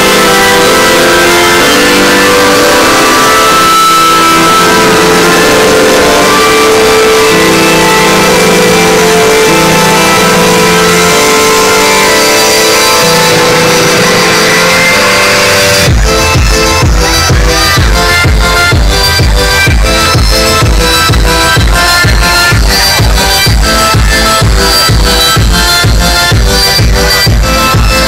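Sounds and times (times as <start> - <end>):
electronic dance music: 0.0 - 28.0.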